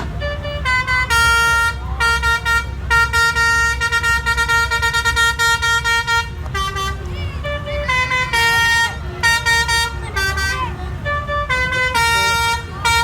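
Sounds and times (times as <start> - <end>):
bus horn playing a tune: 0.0 - 13.0.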